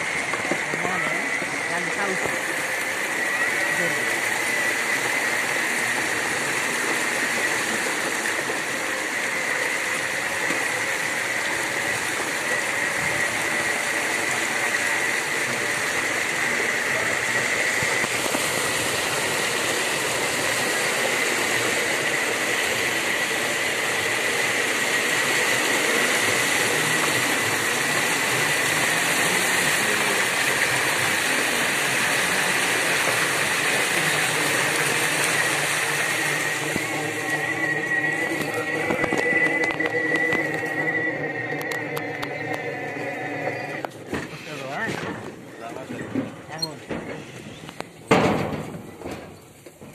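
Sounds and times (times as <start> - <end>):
motor running: 0.0 - 45.4
constant high whine: 0.0 - 49.9
water rushing around wheels: 0.0 - 49.9.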